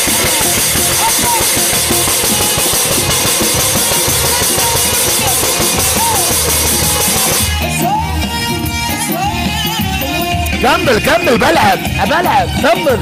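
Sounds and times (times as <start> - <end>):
loud music with pounding drums: 0.0 - 13.0.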